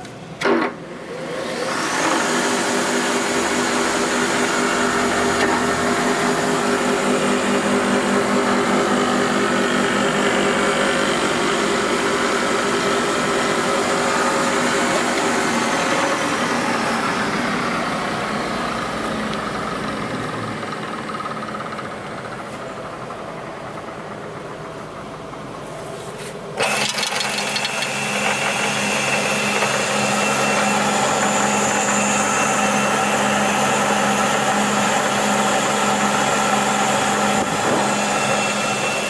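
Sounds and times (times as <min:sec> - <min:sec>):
electric motor whine: 0:01.0 - 0:20.0, 0:26.6 - 0:39.0.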